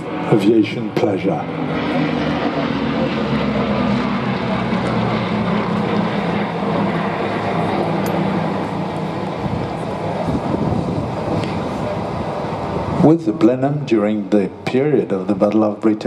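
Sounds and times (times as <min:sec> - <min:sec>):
propeller aircraft flying past: 0:00.0 - 0:16.0.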